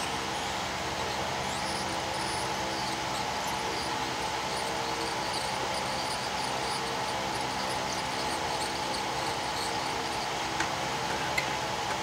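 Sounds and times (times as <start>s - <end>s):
fan hum: 0.0s - 12.0s
hot air blower hiss: 0.0s - 12.0s.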